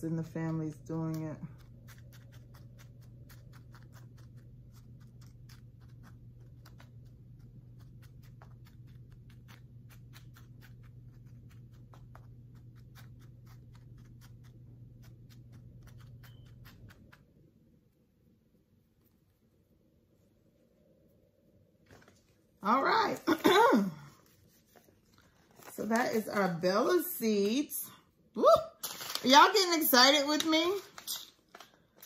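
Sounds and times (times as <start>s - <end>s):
steady low hum: 0.0s - 28.4s.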